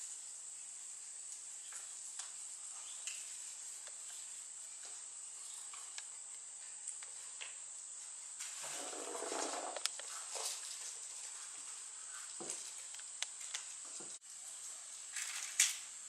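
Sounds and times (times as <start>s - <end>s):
light ticks and rustles: 1.2s - 8.6s, 9.2s - 15.9s.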